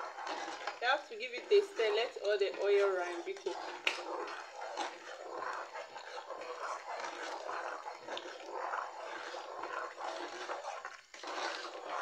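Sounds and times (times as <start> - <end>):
spoon stirring wet beans: 0.0 - 12.0.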